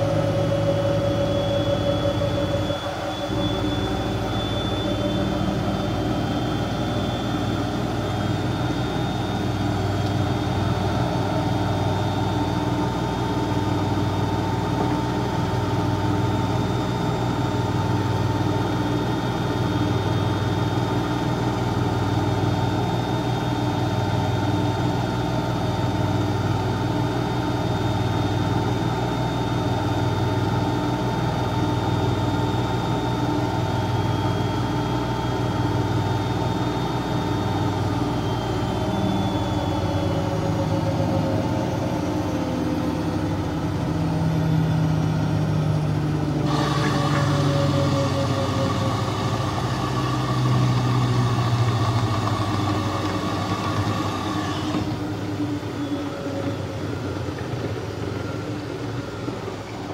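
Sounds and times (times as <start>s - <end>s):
high machine whine: 0.0s - 59.9s.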